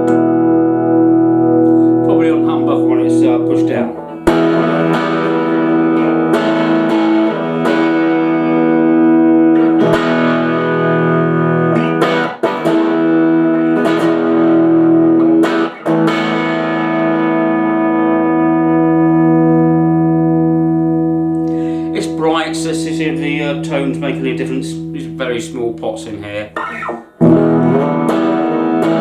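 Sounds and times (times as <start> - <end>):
electric guitar chords ringing: 0.0 - 29.0.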